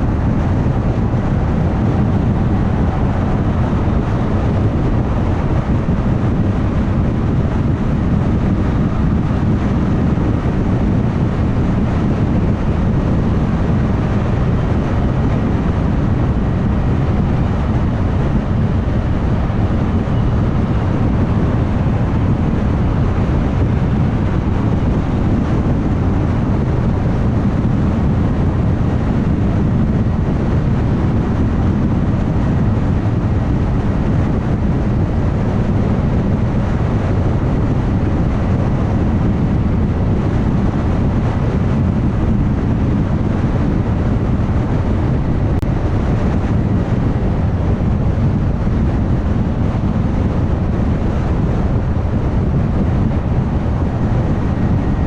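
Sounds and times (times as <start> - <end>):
car road noise at highway speed: 0.0 - 55.0.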